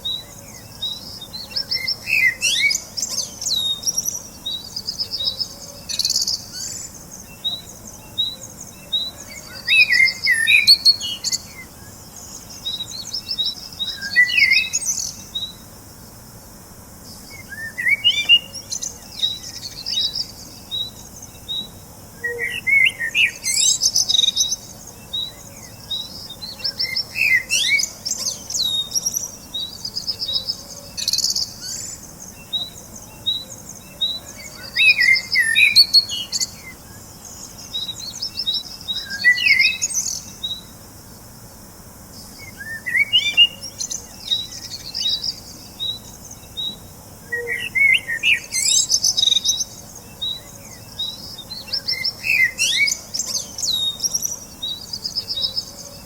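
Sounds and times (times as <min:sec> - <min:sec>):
bird chirping: 0:00.0 - 0:15.7, 0:16.4 - 0:41.2, 0:42.1 - 0:56.0.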